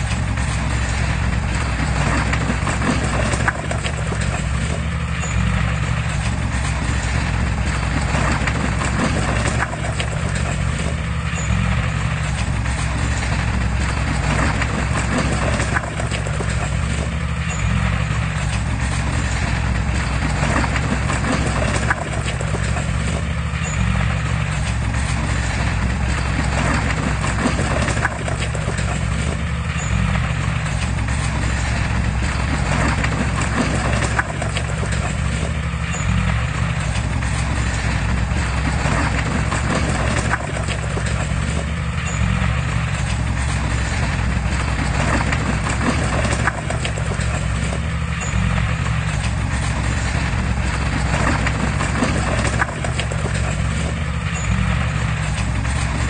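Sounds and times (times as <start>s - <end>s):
low diesel engine drone: 0.0s - 56.0s.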